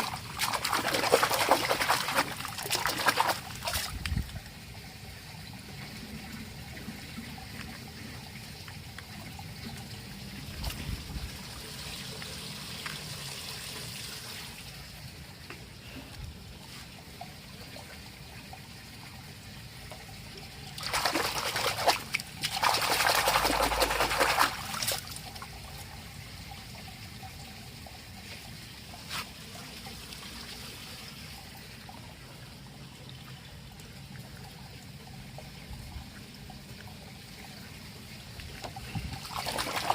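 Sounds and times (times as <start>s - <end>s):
water pouring and splashing: 0.0s - 39.9s
water trickling: 0.0s - 39.9s.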